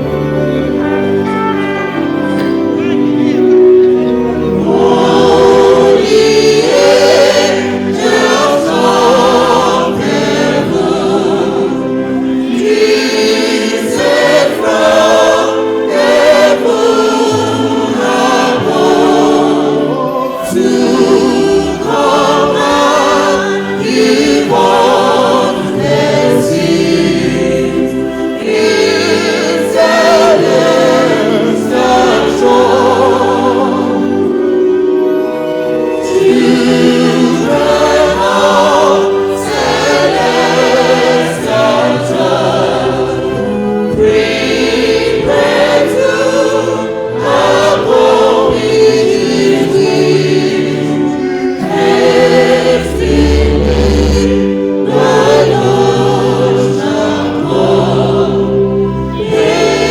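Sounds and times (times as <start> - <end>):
choir singing a hymn: 0.0 - 59.9
instrumental accompaniment chords: 0.0 - 59.9.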